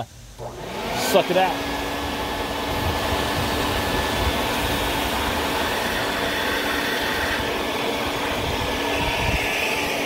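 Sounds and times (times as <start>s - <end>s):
shop vac whining: 0.0s - 10.0s.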